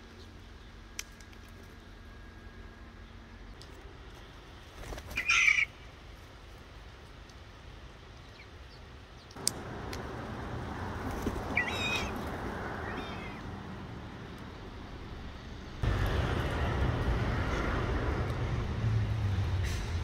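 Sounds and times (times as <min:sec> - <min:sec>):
street traffic noise: 0:00.1 - 0:20.0.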